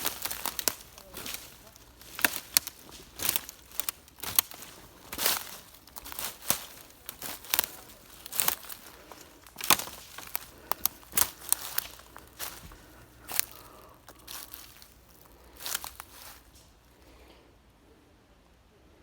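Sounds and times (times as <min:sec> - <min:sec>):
footsteps on twigs and leaves: 0:00.0 - 0:17.1.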